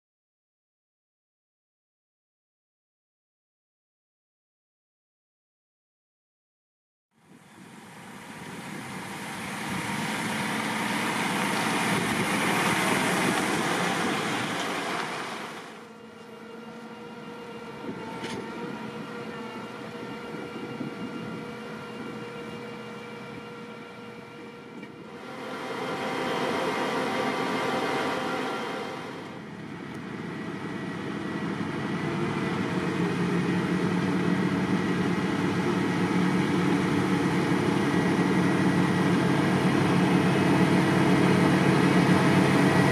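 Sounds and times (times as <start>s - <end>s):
engine working under load: 7.2s - 42.9s
diesel engines running: 7.3s - 42.9s
diesel truck driving on dirt: 7.4s - 42.9s.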